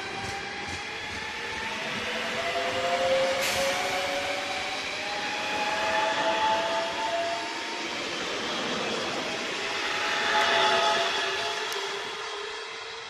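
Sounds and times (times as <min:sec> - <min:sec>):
train wheel and rail noise: 0:00.0 - 0:13.0
train motor whine: 0:00.2 - 0:12.5.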